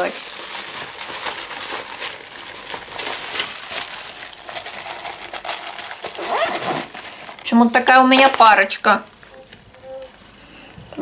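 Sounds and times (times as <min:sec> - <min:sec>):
bag rustling and crinkling: 0:00.0 - 0:09.3.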